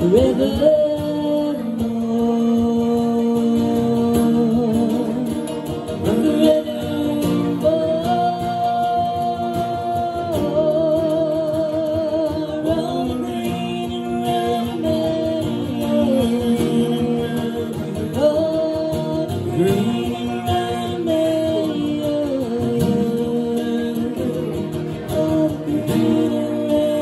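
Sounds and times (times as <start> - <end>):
slow folk ballad melody: 0.0 - 27.0
strummed accompaniment: 0.0 - 27.0.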